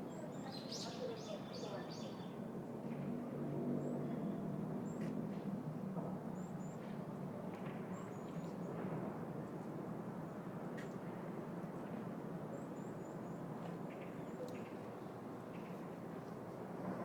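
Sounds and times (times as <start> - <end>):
low hum of city: 0.0 - 17.0.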